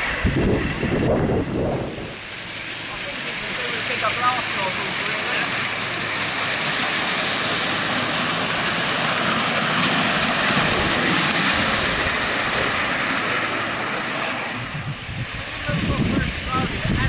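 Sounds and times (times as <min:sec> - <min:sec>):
steam hissing: 0:00.0 - 0:17.0
steam locomotive running: 0:00.0 - 0:17.0.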